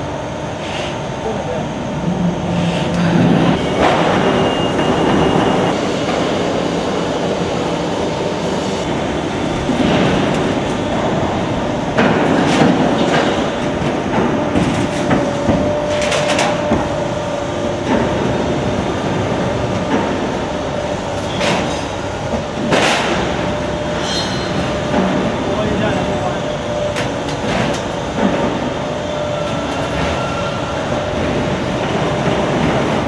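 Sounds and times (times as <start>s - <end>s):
sheet-metal machinery rumble: 0.0s - 33.0s.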